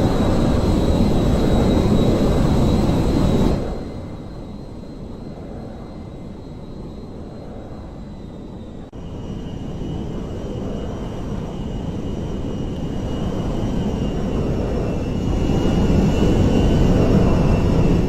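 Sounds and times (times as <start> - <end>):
jet engine rumble and whine: 0.0 - 18.0.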